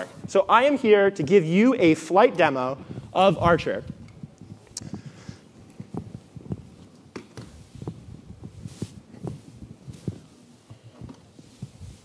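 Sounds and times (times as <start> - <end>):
footsteps on stage floor: 0.0 - 12.0.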